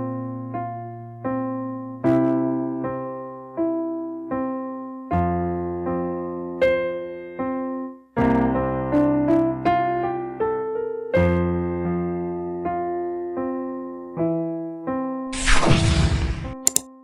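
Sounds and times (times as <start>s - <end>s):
slow electric piano chords: 0.0s - 15.2s.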